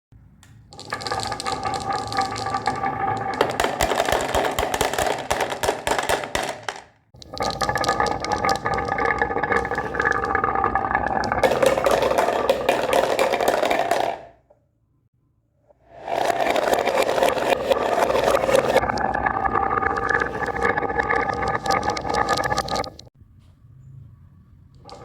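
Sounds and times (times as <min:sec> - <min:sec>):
marbles rolling and clattering: 0:00.7 - 0:14.4, 0:15.8 - 0:23.1, 0:24.8 - 0:25.0.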